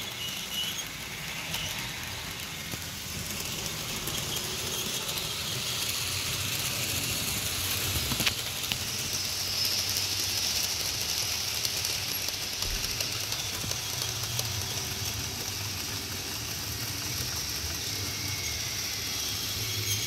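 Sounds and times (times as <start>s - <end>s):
model train motors whirring: 0.0s - 20.0s.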